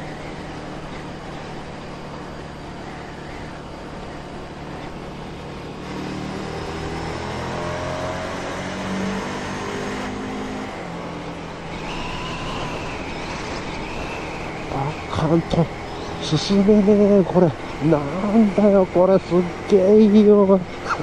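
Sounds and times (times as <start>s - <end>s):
motorcycle accelerating in tunnel: 0.0s - 21.0s.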